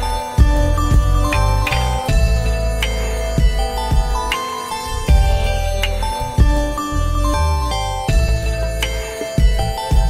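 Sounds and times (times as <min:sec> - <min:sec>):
calm electronic melody: 0:00.0 - 0:10.0
deep bass note: 0:00.0 - 0:10.0.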